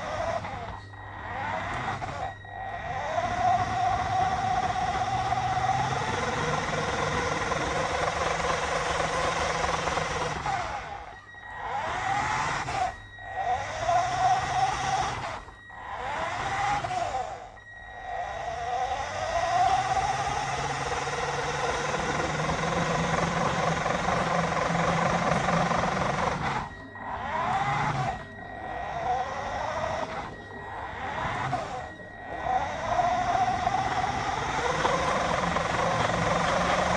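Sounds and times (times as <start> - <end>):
toy car motor whining: 0.0 - 36.9.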